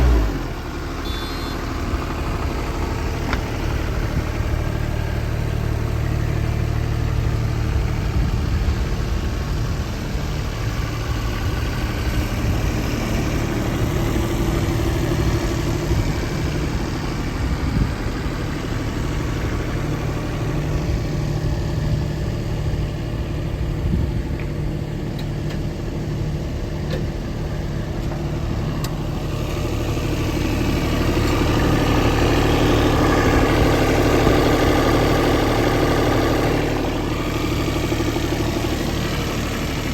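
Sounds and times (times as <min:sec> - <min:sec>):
small diesel engine running: 0:00.0 - 0:39.9.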